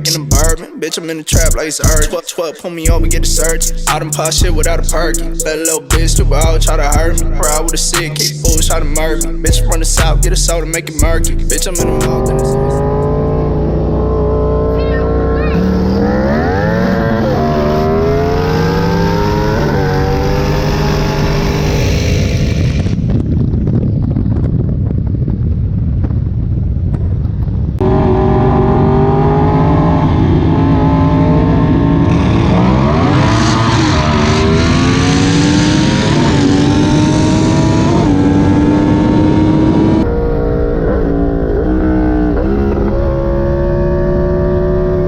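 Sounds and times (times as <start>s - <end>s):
cars accelerating hard: 3.1s - 23.0s, 27.8s - 45.0s.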